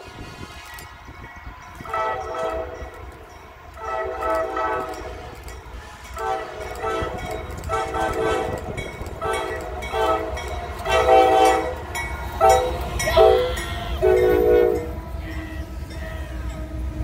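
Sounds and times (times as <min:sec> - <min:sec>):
locomotive air horn blasts: 0:00.0 - 0:03.2, 0:03.8 - 0:15.9
train rumbling: 0:00.0 - 0:17.0.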